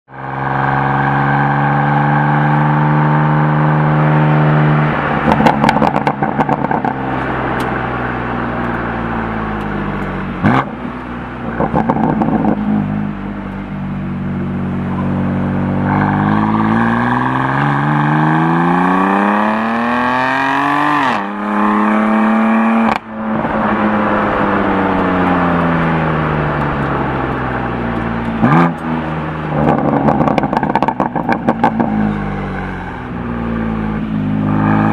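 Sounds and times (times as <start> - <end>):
car exhaust accelerating: 0.1 - 34.9
exhaust crackling: 0.2 - 20.1, 21.3 - 34.9.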